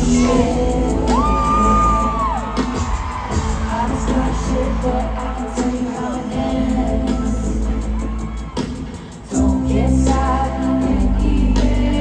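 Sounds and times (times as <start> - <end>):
woman singing pop: 0.0 - 8.0, 9.2 - 12.0
crowd voices: 0.0 - 12.0.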